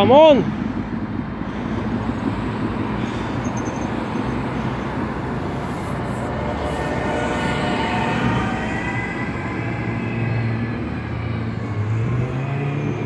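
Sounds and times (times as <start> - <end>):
cars driving past: 0.0 - 13.0
vehicle engine rising in pitch: 0.0 - 13.0.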